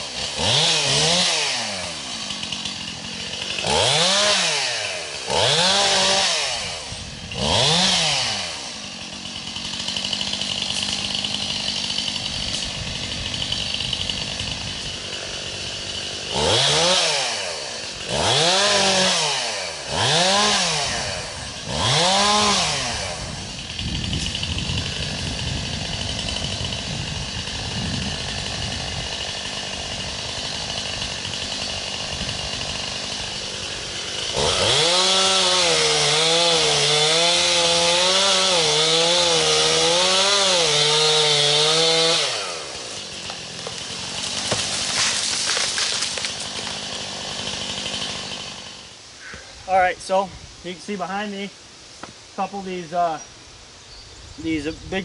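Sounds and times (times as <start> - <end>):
chainsaw revving and idling: 0.0 - 53.2.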